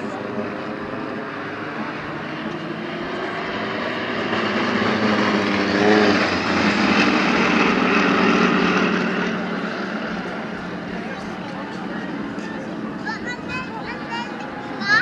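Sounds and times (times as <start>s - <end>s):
propeller planes droning overhead: 0.0s - 15.0s.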